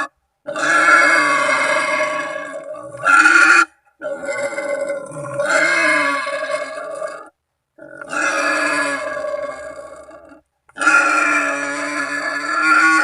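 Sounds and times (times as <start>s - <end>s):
wild pig squealing grunts: 0.0s - 13.0s.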